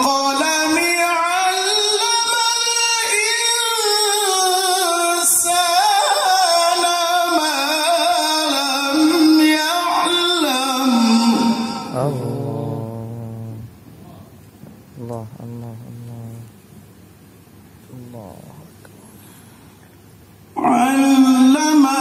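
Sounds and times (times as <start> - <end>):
man reciting melodically: 0.0 - 16.6, 17.9 - 18.8, 20.5 - 22.0.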